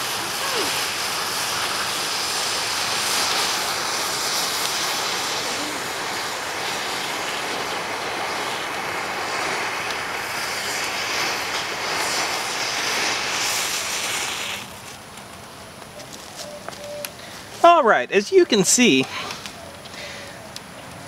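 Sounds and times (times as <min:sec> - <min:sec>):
rocket fuel burning with rushing hiss: 0:00.0 - 0:16.3, 0:17.1 - 0:21.0.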